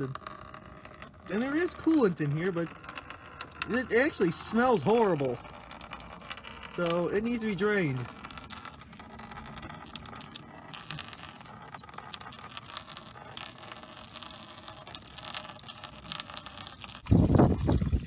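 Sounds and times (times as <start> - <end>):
coolant dripping and splashing: 0.0 - 18.0
liquid pouring into a pan: 0.0 - 18.0.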